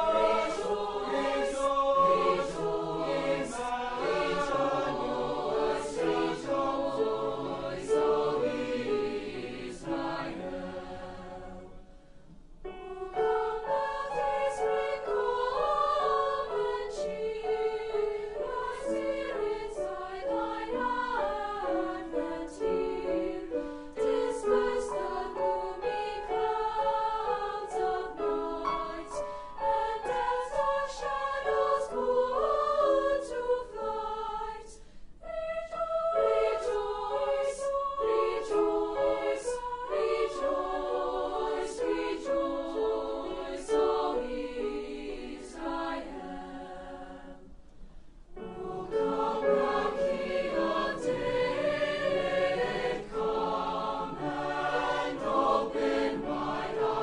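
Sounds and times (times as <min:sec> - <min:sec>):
choir singing in parts: 0:00.0 - 0:47.6, 0:48.3 - 0:57.0.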